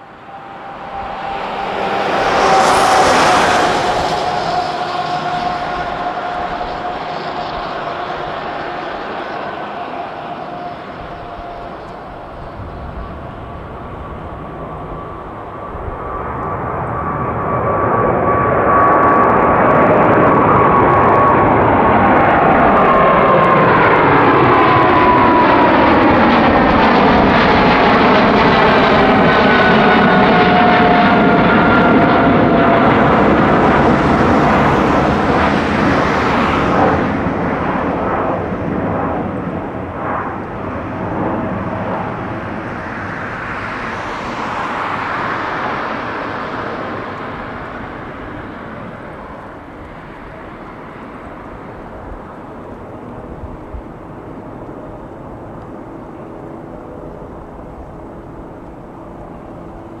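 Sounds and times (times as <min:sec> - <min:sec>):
jet roar with whine: 0:00.0 - 1:00.0.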